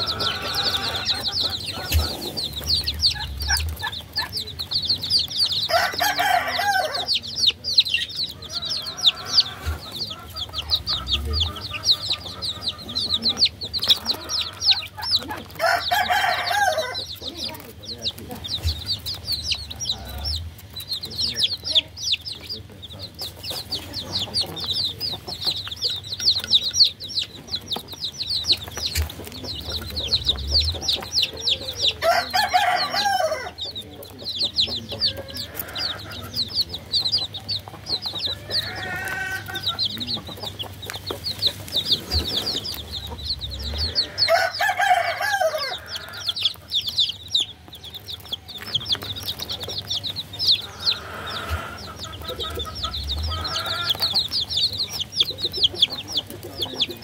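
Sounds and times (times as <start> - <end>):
baby chicks peeping: 0.0 - 57.0
longer lower chick calls: 0.0 - 57.0.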